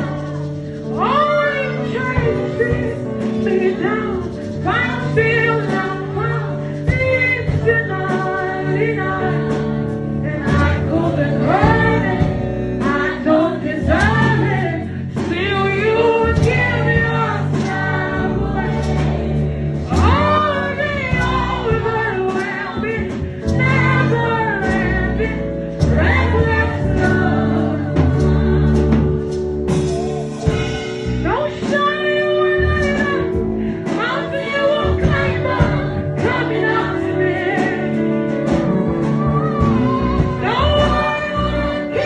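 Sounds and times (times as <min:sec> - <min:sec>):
choir singing gospel: 0:00.0 - 0:42.0
steady bass line: 0:00.0 - 0:42.0
sustained keyboard chords: 0:00.0 - 0:42.0.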